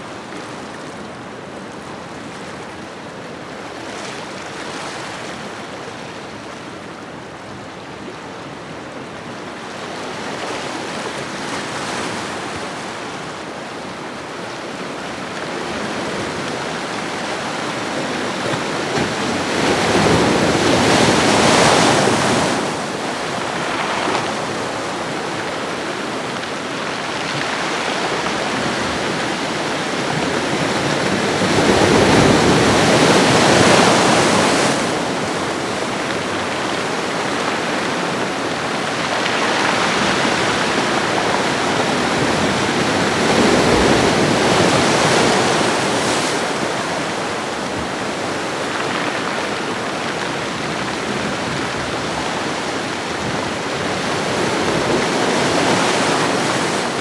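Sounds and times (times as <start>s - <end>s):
ocean waves on shoreline: 10.6s - 57.0s.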